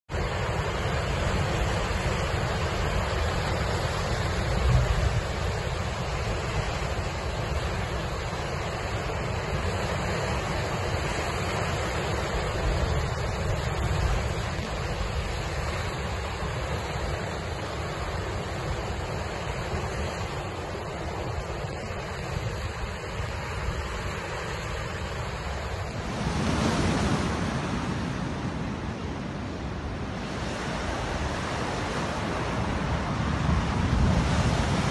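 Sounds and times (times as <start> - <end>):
strong wind: 0.1 - 34.9
waves breaking on coast: 0.1 - 34.9.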